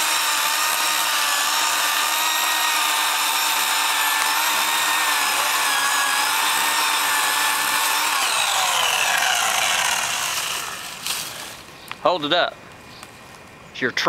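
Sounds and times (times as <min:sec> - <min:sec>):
electric chainsaw cutting: 0:00.0 - 0:11.7.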